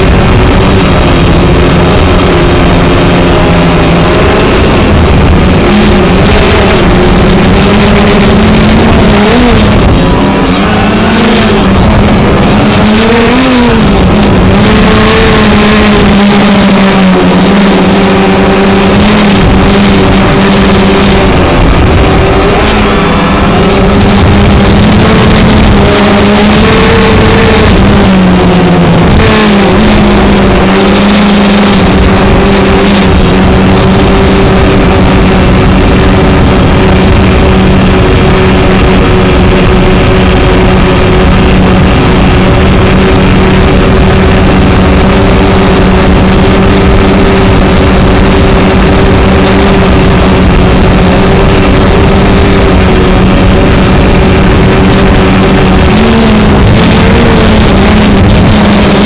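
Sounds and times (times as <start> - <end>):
model airplane motor droning: 0.0 - 59.0
wind rush: 0.0 - 59.0.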